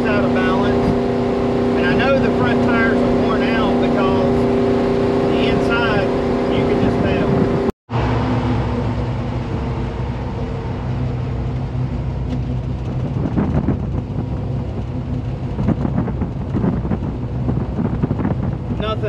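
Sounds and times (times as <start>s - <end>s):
car engine hum: 0.0s - 19.0s
road and wind noise: 0.0s - 19.0s.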